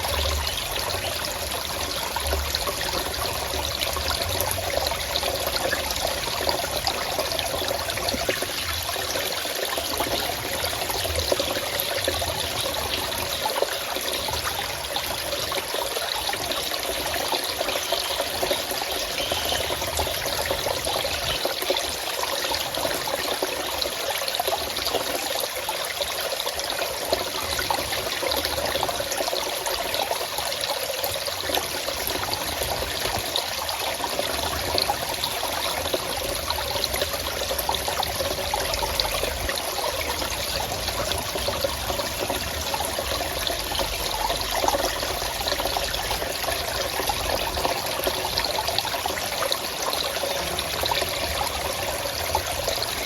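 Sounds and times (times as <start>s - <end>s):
forest stream flowing: 0.0s - 53.0s.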